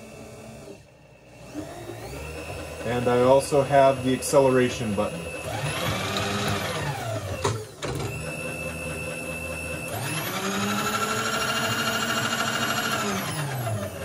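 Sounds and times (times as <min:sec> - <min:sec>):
motor and gears whining: 0:00.0 - 0:14.0.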